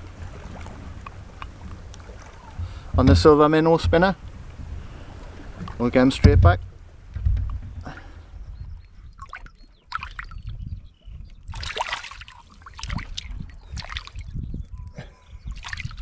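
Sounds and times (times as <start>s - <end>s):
water splashing and sloshing: 0.0s - 14.8s, 15.4s - 16.0s.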